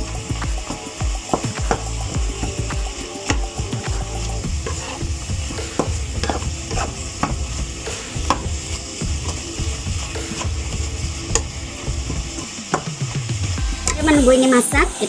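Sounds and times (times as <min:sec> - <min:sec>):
spatula scraping frying pan: 0:00.0 - 0:14.7
food sizzling: 0:00.0 - 0:15.0.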